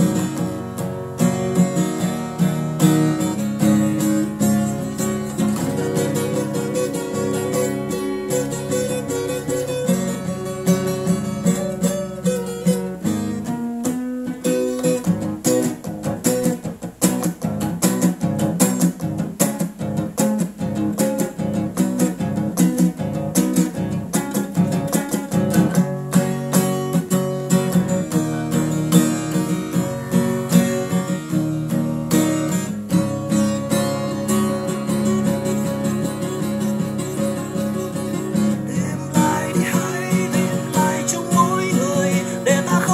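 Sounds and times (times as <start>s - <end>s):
acoustic guitar: 0.0s - 42.9s.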